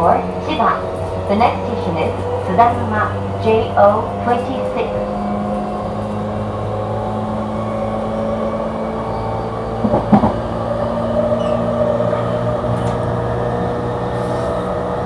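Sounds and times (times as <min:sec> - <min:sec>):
electric train cabin hum: 0:00.0 - 0:15.0
train motor whine: 0:00.0 - 0:15.0.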